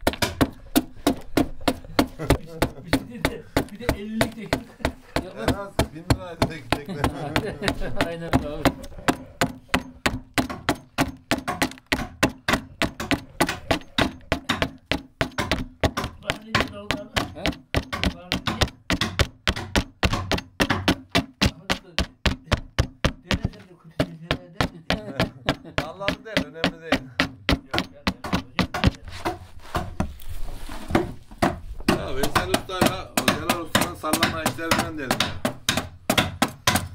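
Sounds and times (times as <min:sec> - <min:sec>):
adze chopping into wood: 0:00.0 - 0:30.1, 0:30.9 - 0:36.9.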